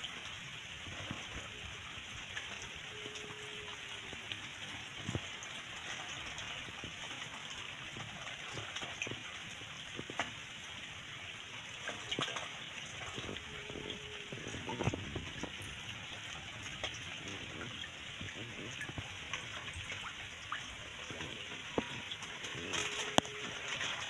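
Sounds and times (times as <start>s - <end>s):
rain falling on pond: 0.0s - 24.0s
small water splashes: 0.0s - 24.0s.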